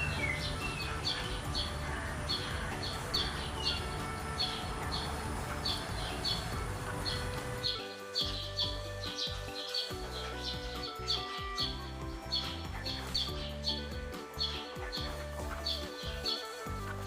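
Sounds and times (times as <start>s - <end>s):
small songbird chirping: 0.0s - 16.6s.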